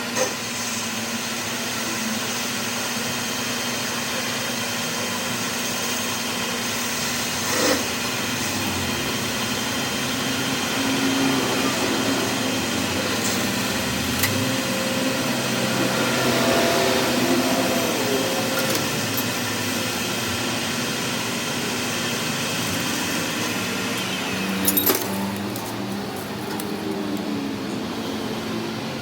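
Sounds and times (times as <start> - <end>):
workshop machine droning hum: 0.0 - 29.0.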